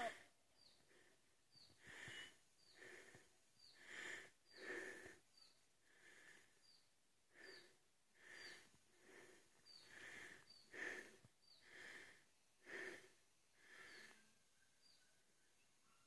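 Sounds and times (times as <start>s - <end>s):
heavy rhythmic breathing: 0.0s - 14.3s.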